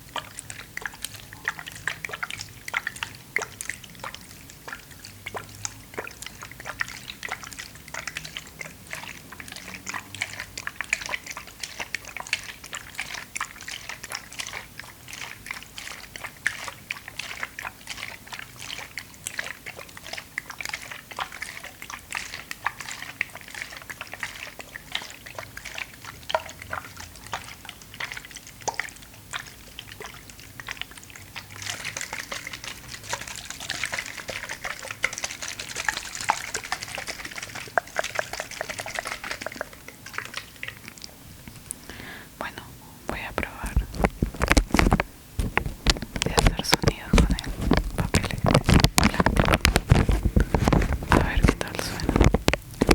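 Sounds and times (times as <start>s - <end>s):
water drips and splashes: 0.0s - 52.9s.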